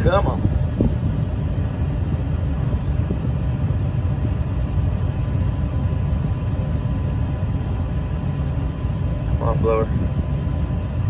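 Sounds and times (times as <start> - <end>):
gas furnace burners rumbling: 0.0 - 11.0.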